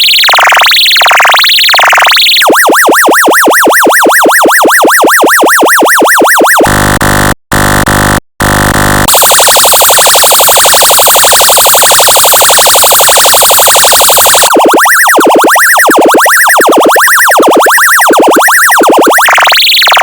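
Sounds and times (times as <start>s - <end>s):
electronic siren yelp: 0.0s - 20.0s
harsh buzzing tone: 0.0s - 20.0s
rapid pulsing buzz: 0.0s - 20.0s.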